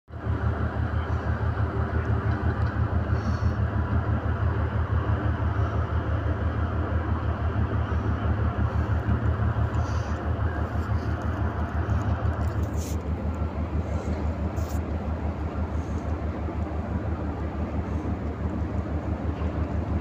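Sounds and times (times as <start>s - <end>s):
ship engine throbbing: 0.1s - 20.0s.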